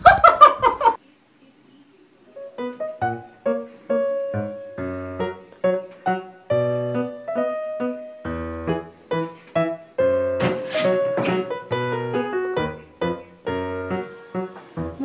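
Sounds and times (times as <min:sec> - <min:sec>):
piano melody: 0:02.4 - 0:15.0.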